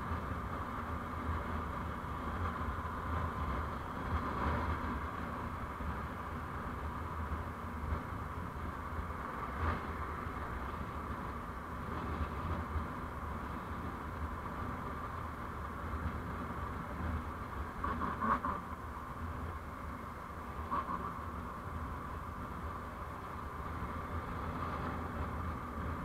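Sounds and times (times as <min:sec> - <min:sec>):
vehicle road and engine noise: 0:00.0 - 0:26.0.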